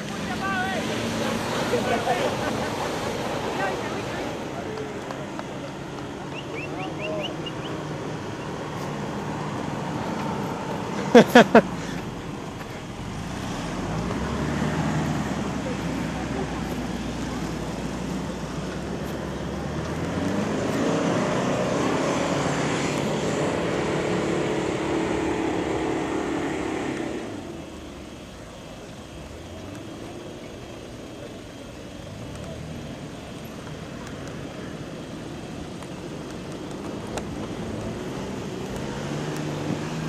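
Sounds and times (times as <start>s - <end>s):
off-road engine under load: 0.0s - 40.0s.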